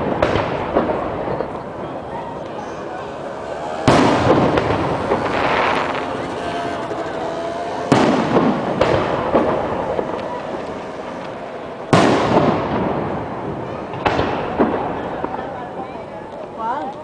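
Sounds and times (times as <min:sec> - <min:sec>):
fireworks bangs with echoing rumble: 0:00.0 - 0:16.6
small firework cracks: 0:00.0 - 0:17.0.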